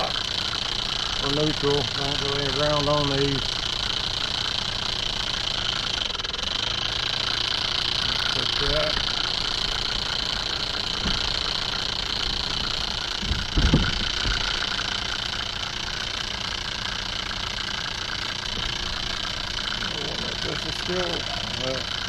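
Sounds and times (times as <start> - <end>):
small motor high whine: 0.0 - 22.0.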